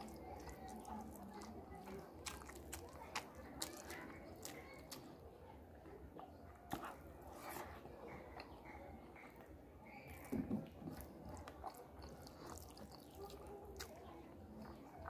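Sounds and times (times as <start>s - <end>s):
man chewing food: 0.0s - 15.0s.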